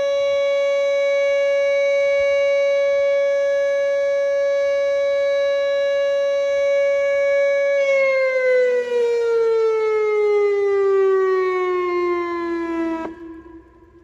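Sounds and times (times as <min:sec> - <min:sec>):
steady warning siren tone: 0:00.0 - 0:14.0.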